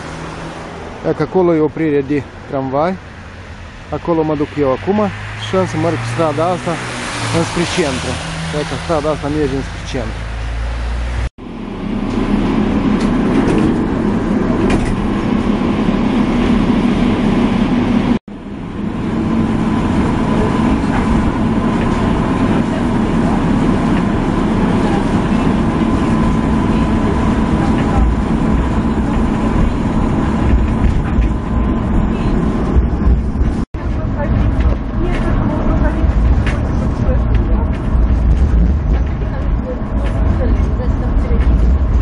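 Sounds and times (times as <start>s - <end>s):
tram wheels rumbling on rails: 0.0s - 42.0s
low hum: 2.0s - 42.0s.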